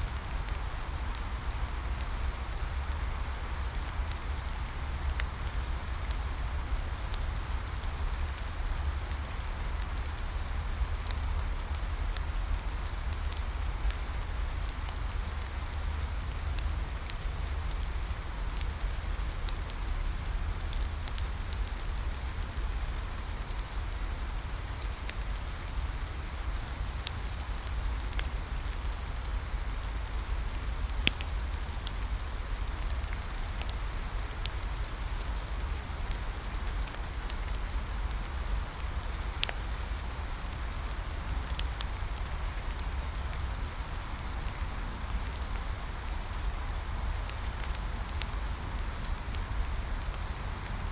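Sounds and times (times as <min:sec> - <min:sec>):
rain falling: 0:00.0 - 0:50.9
bonfire crackling and popping: 0:00.1 - 0:50.9.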